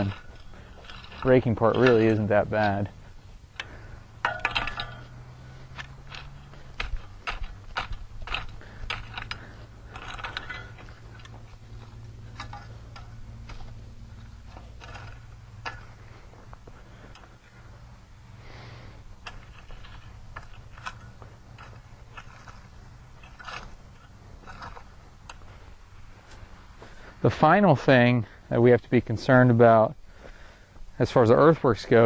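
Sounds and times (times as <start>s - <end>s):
hand rake scraping through soil: 0.0s - 28.2s
steady low hum: 0.0s - 32.0s.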